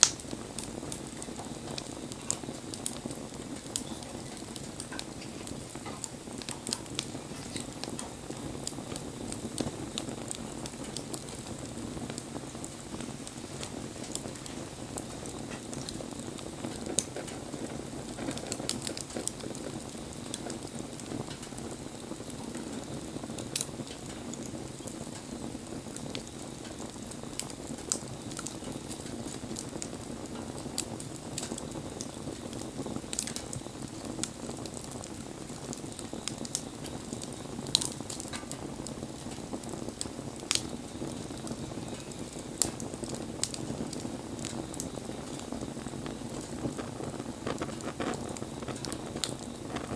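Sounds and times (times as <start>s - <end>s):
low rush of fire: 0.0s - 49.9s
wood fire crackling and popping: 0.0s - 49.9s.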